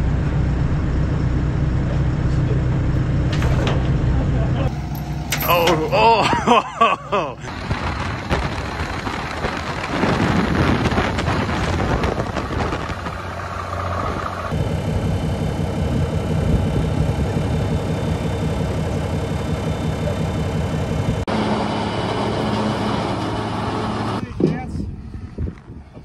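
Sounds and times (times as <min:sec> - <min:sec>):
heavy truck engine running: 0:00.0 - 0:24.2
truck engine droning under load: 0:00.0 - 0:24.2
road noise at speed: 0:00.0 - 0:26.0.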